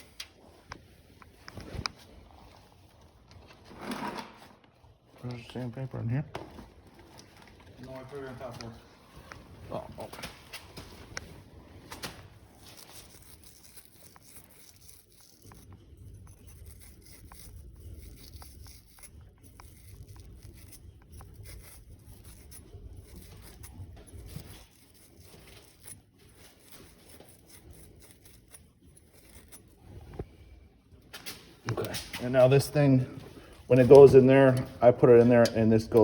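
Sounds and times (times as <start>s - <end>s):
light scratching: 7.2s - 36.0s.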